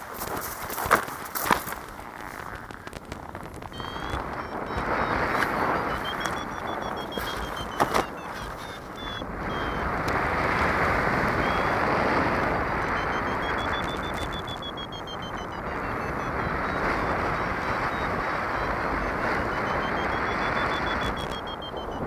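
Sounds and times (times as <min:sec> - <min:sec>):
wind rushing over microphone: 0:00.0 - 0:22.0
variometer beeping: 0:01.4 - 0:22.0.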